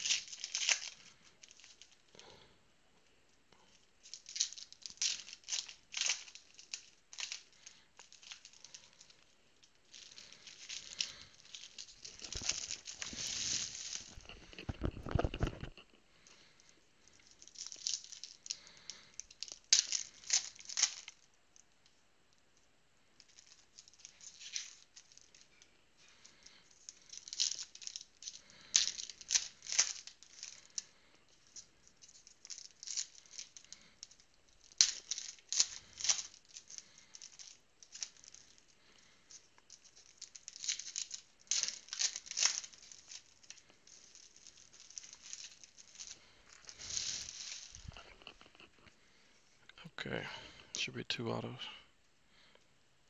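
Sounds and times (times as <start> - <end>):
foil wrappers crinkling: 0.0 - 2.5, 3.5 - 21.6, 23.2 - 49.2.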